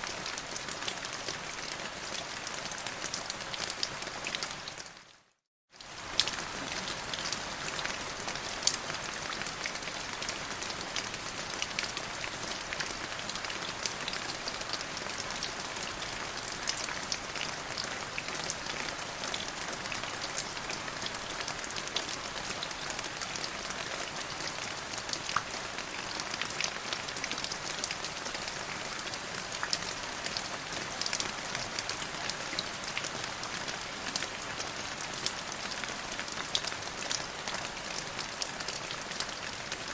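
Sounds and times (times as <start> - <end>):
rain falling: 5.8 - 39.9.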